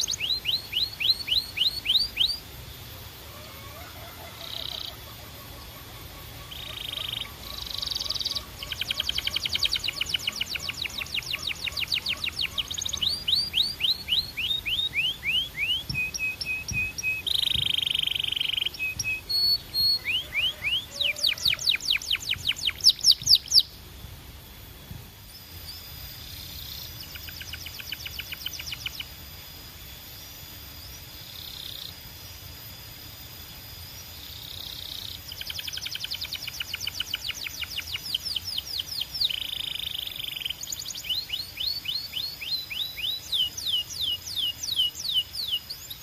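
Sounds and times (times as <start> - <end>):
canary singing trills: 0.0 - 23.8, 25.3 - 32.7, 33.5 - 46.0.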